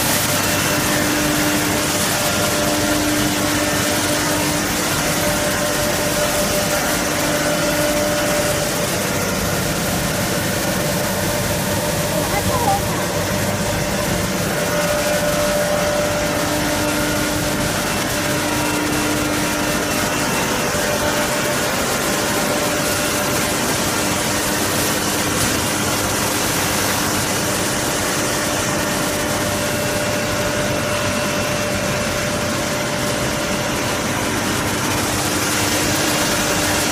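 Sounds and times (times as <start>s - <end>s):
constant hum tones: 0.0s - 36.9s
machinery running: 0.0s - 36.9s.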